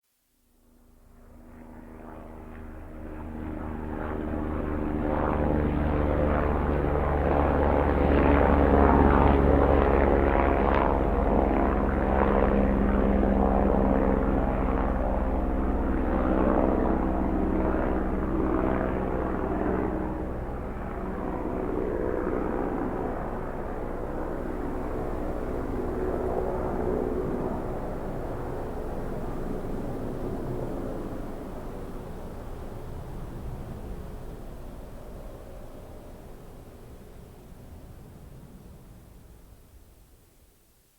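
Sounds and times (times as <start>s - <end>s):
helicopter engine and rotor: 0.8s - 37.5s.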